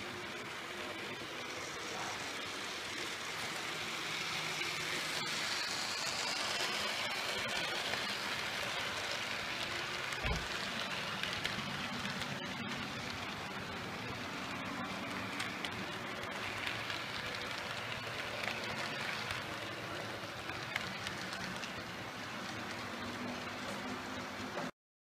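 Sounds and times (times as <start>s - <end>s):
model train wheels rattling: 0.2s - 24.6s.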